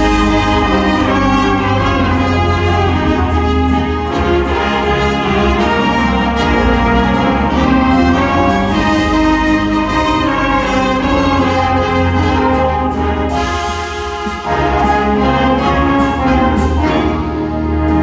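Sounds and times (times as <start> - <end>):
wind ensemble playing: 0.0 - 18.0.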